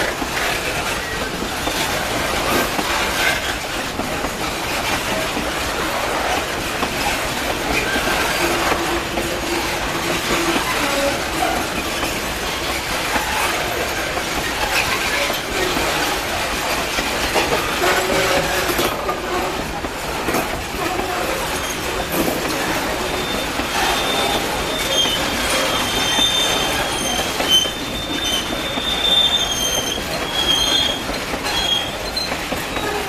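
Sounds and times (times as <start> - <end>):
train wheels clattering on track: 0.0 - 33.0
wheel squeals: 0.1 - 33.0.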